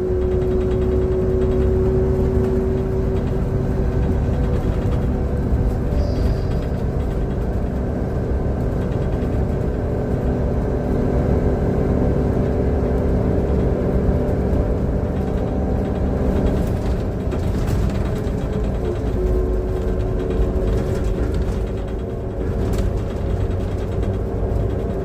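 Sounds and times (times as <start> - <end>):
bus engine rumbling: 0.0 - 25.0.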